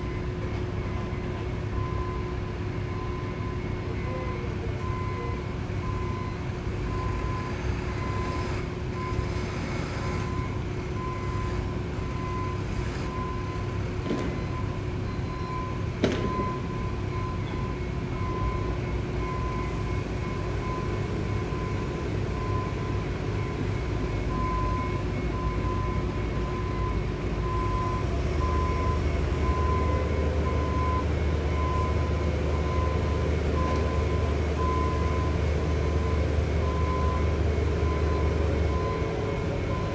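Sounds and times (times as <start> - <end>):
construction machinery engine rumbling: 0.0 - 39.9
reversing alarm beeping: 0.0 - 39.9.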